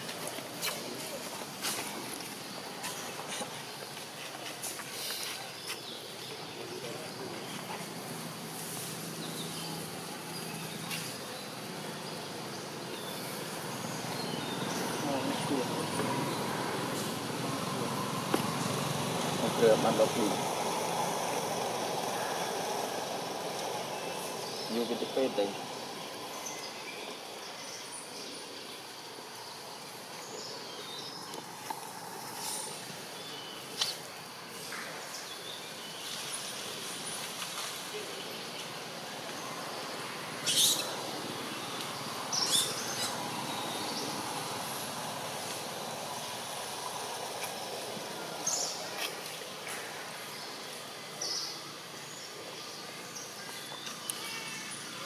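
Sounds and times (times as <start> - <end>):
outdoor background noise: 0.0 - 55.0.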